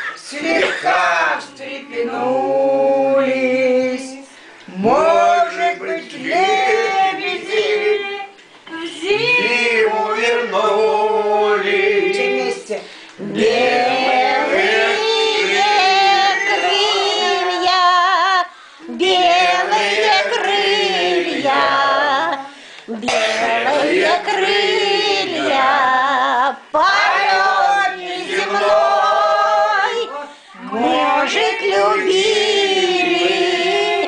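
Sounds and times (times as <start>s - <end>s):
man and women singing: 0.0s - 34.0s.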